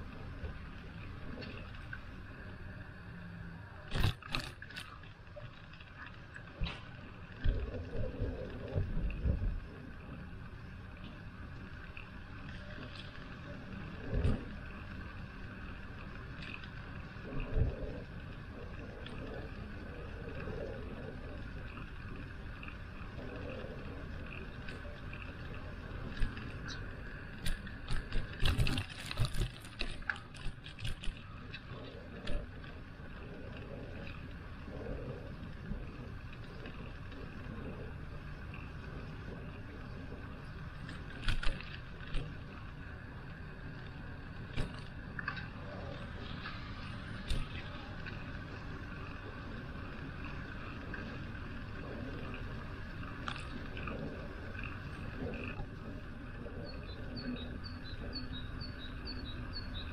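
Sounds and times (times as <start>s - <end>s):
bicycle tyre noise: 0.0s - 59.9s
road rumble: 0.0s - 59.9s
wind on microphone: 6.5s - 11.0s, 13.6s - 59.9s.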